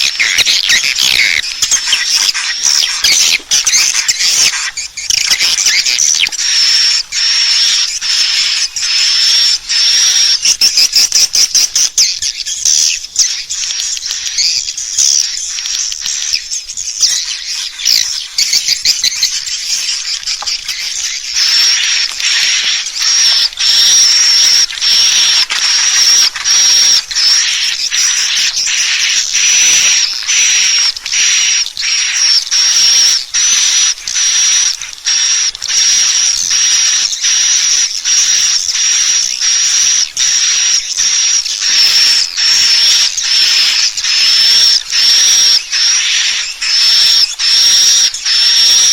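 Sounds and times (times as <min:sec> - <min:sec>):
swiftlet calls twittering: 0:00.0 - 0:48.9.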